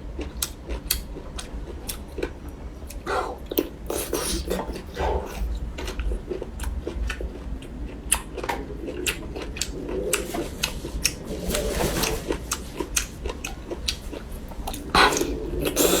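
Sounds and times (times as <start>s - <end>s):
chewing bamboo shoots crunching: 0.1s - 16.0s.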